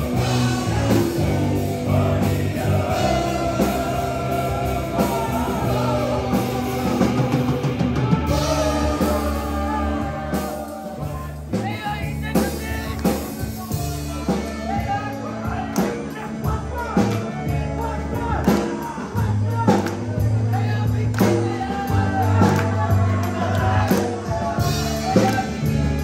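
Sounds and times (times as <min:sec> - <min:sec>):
drum beats: 0:00.0 - 0:26.0
live rock band playing: 0:00.0 - 0:26.0
man singing: 0:00.0 - 0:26.0.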